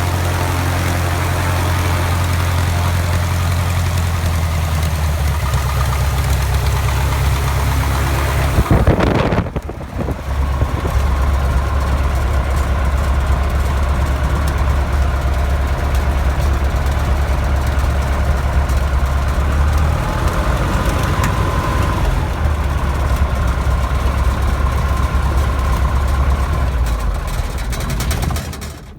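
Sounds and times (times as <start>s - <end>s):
aircraft engine running: 0.0s - 28.0s.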